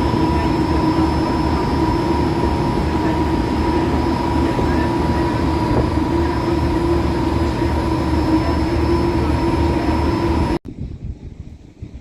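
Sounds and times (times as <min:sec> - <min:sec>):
bus running with whine and rumble: 0:00.0 - 0:12.0.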